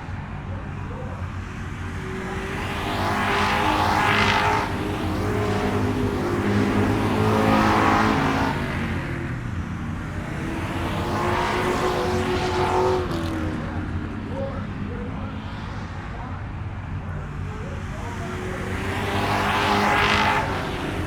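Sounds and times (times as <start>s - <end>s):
rush of passing cars: 0.0s - 21.0s.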